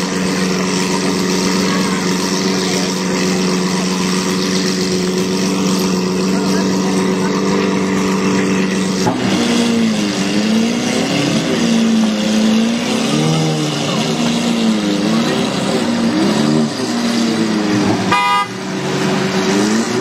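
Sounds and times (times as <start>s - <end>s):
sports car engine revving: 0.0s - 20.0s.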